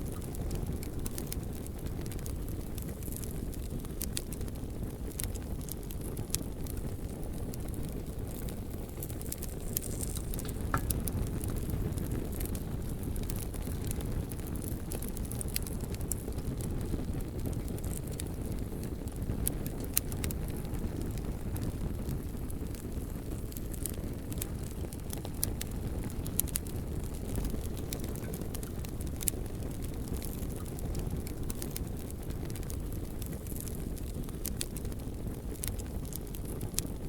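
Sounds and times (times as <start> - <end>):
burning logs crackling and popping: 0.0 - 37.0
low rumble of flames: 0.0 - 37.0.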